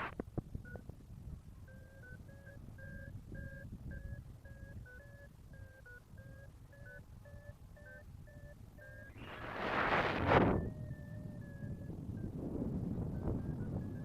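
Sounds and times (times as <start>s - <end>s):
wind rumble on microphone: 0.0s - 14.0s
variometer beeping: 0.6s - 0.9s, 1.6s - 14.0s.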